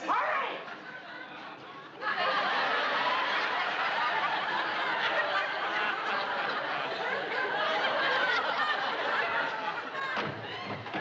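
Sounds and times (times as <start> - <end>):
audience laughing: 0.6 - 11.0.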